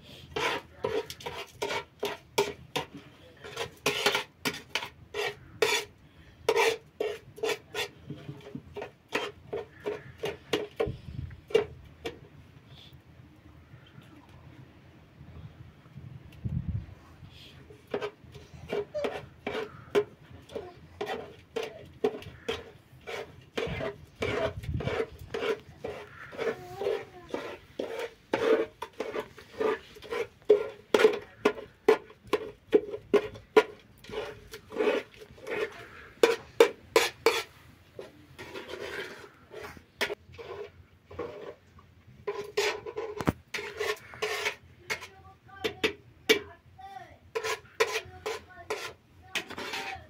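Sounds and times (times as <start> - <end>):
metallic knocks and scrapes: 0.3 - 12.2, 17.7 - 46.6, 47.3 - 50.0.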